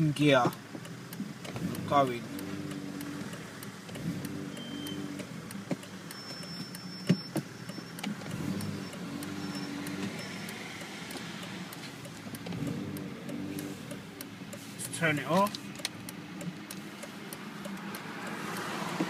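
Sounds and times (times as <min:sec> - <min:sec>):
car engine idling high: 0:00.0 - 0:19.0
hazard-light relay ticking: 0:00.0 - 0:19.0.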